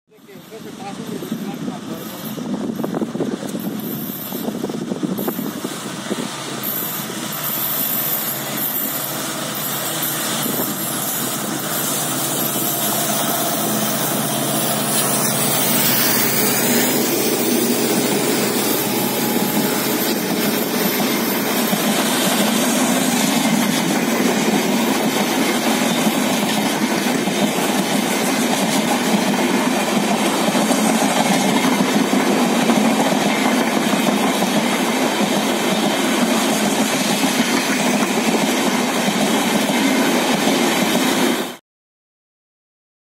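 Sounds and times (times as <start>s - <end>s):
diesel locomotive passing: 0.1s - 41.6s.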